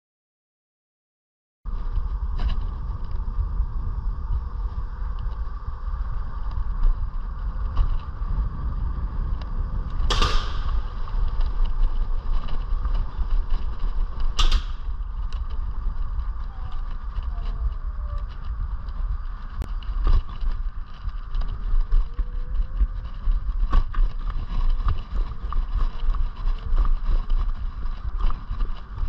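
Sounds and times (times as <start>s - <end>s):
electric scooter rumble and hum: 1.7s - 29.0s.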